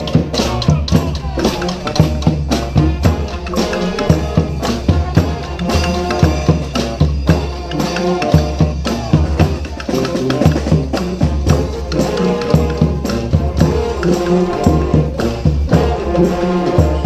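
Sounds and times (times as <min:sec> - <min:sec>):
horns playing melody: 0:00.0 - 0:17.0
steady drum beat: 0:00.0 - 0:17.0.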